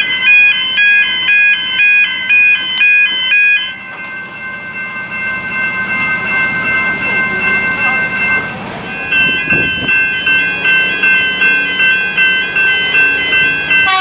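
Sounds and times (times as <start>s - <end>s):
two-pitch electronic warning beeps: 0.0s - 14.0s.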